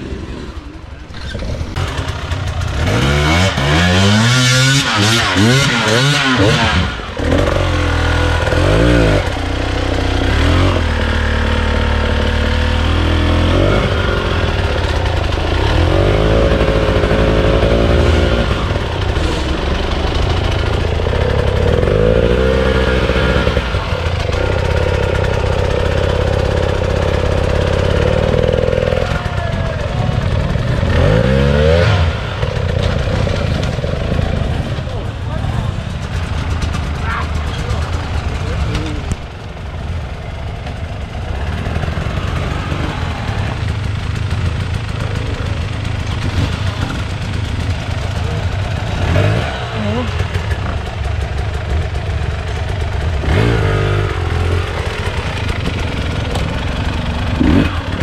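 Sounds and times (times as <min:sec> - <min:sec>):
motorcycle engines revving: 0:00.0 - 0:58.0.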